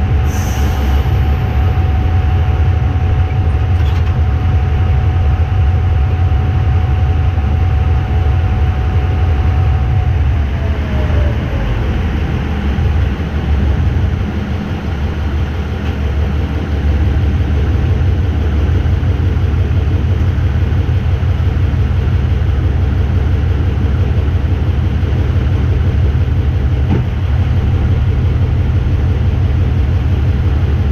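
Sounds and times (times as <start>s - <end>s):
locomotive diesel engine rumble: 0.0s - 30.9s.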